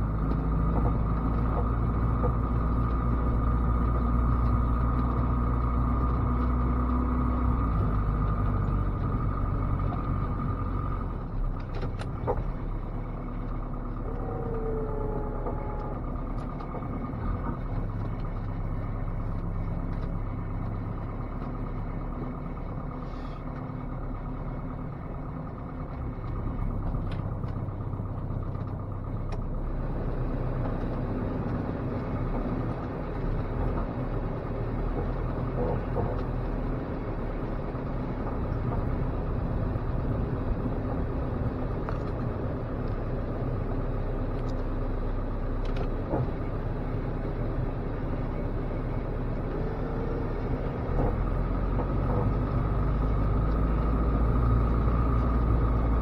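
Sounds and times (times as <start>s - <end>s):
engine running under load: 0.0s - 56.0s.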